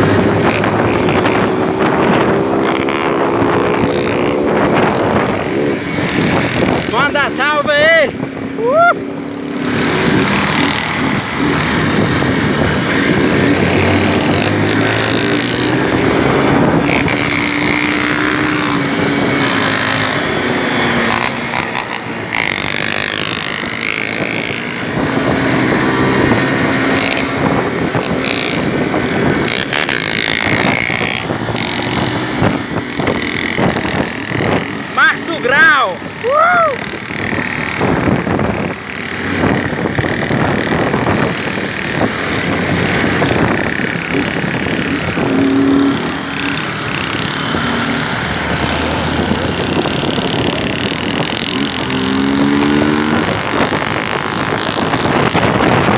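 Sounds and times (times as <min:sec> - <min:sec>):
motorcycle engine running: 0:00.0 - 0:55.9
riding wind rush: 0:00.0 - 0:55.9.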